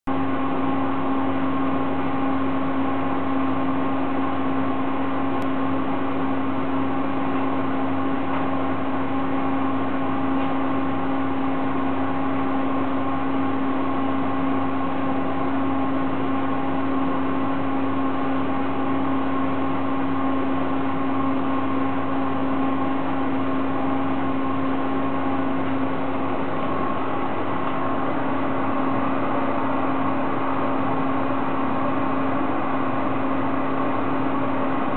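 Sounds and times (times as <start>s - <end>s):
tumble dryer running: 0.1s - 34.9s.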